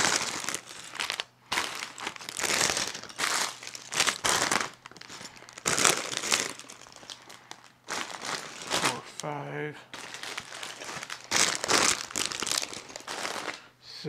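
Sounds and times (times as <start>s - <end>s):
plastic bags crinkling: 0.0s - 13.7s.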